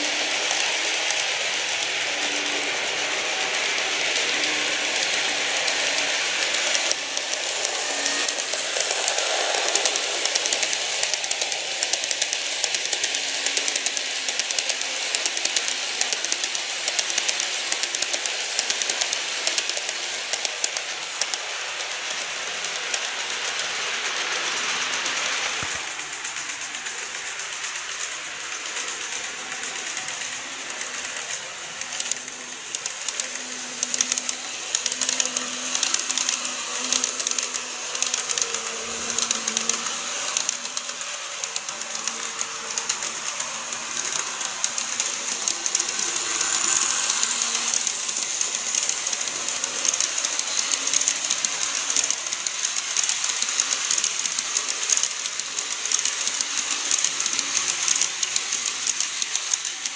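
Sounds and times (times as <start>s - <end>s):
model train wheels clicking: 0.0s - 59.9s
running hiss: 0.0s - 59.9s.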